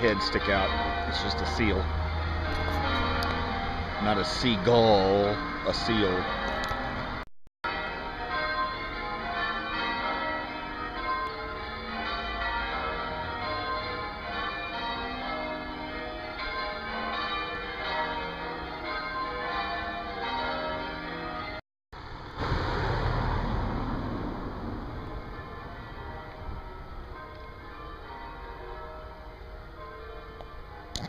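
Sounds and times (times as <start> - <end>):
church bells pealing: 0.0 - 21.6, 24.1 - 31.0.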